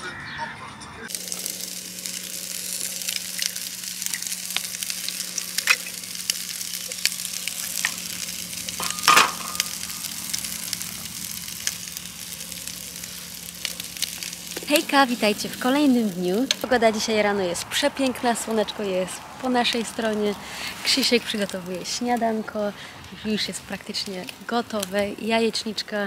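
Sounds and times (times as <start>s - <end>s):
food sizzling in frying pan: 1.1s - 26.0s.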